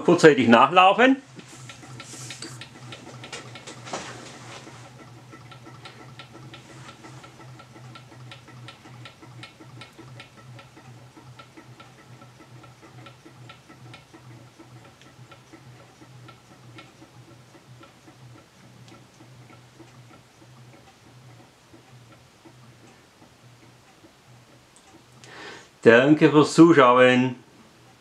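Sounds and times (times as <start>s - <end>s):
engine mechanism ticking: 0.0s - 28.0s
low steady hum: 0.0s - 28.0s.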